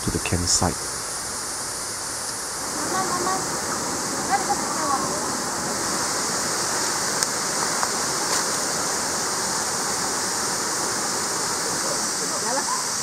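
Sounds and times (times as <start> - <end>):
constant high hiss: 0.0 - 13.0
stream water rushing: 0.0 - 13.0.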